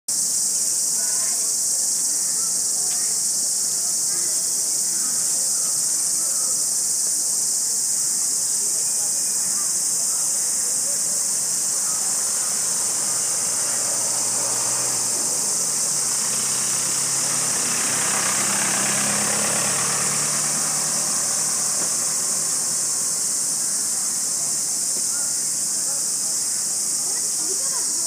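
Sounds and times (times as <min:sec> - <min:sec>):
insects chorus: 0:00.1 - 0:28.0
vehicle engine: 0:00.2 - 0:28.0.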